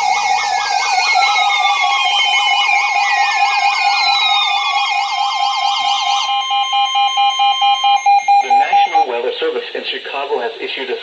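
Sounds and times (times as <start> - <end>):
tones sliding down in pitch: 0.0 - 9.0
electronic alert siren warbling: 0.0 - 9.1
steady high tones: 0.0 - 9.4.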